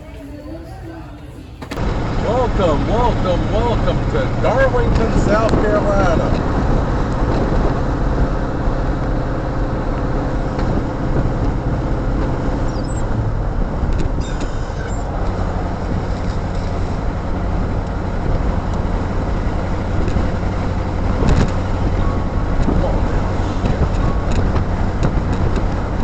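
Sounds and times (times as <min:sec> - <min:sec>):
truck engine hum: 0:01.4 - 0:26.0
road noise: 0:01.7 - 0:26.0.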